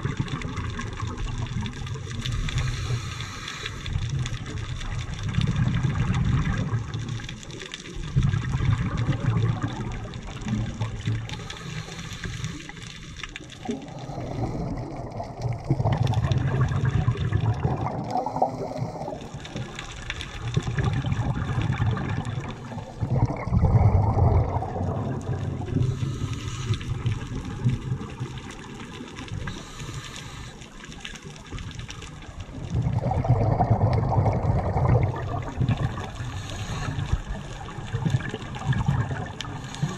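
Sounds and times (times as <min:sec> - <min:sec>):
underwater rumbling wash: 0:00.0 - 0:39.9.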